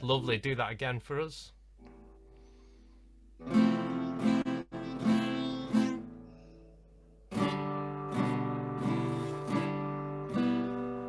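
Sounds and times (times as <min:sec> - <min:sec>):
acoustic guitar strummed slowly: 0:01.9 - 0:11.0.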